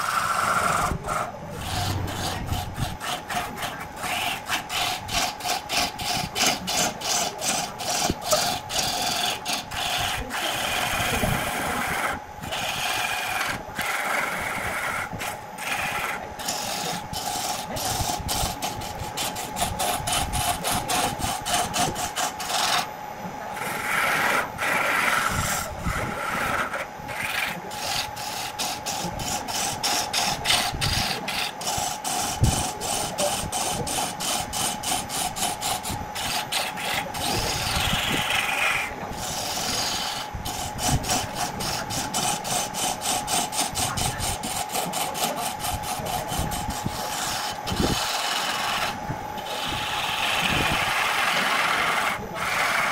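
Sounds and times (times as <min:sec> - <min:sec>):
gouge scraping spinning wood: 0:00.0 - 0:52.9
lathe hum: 0:00.0 - 0:52.9.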